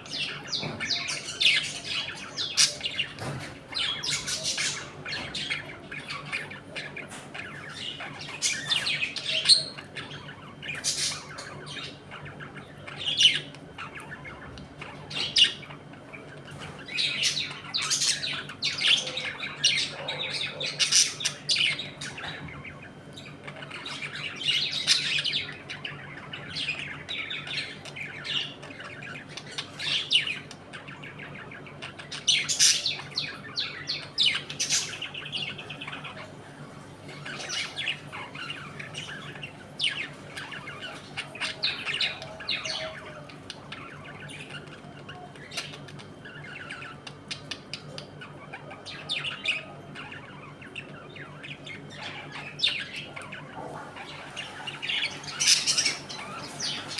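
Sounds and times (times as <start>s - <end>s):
budgerigars chattering and squawking: 0.0s - 56.9s.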